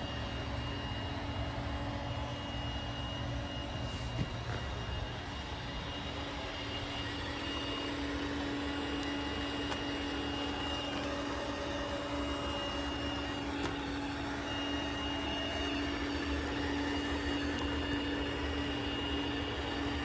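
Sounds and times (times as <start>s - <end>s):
robot vacuum running on carpet: 0.0s - 20.0s.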